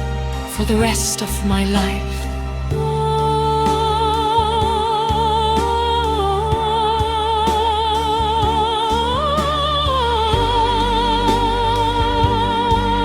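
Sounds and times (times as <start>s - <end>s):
sustained bass: 0.0s - 13.0s.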